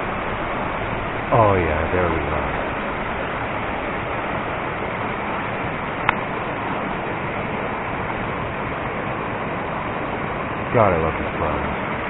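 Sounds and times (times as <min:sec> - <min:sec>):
steady outdoor rushing noise: 0:00.0 - 0:12.0.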